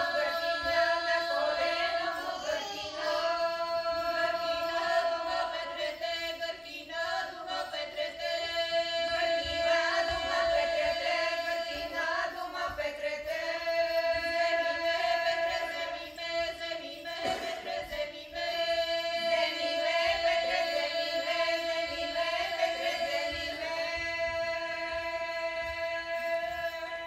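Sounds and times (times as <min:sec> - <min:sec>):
women's folk choir singing: 0:00.0 - 0:27.0.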